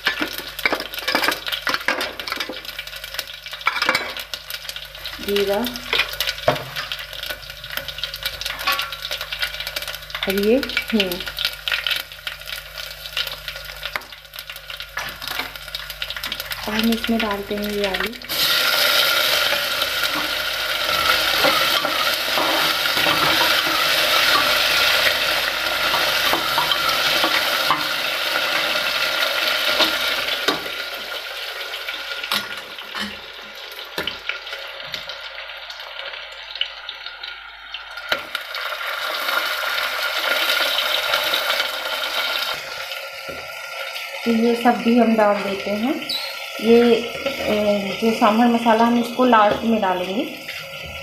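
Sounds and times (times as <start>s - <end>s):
potatoes sizzling in oil: 0.0s - 51.0s.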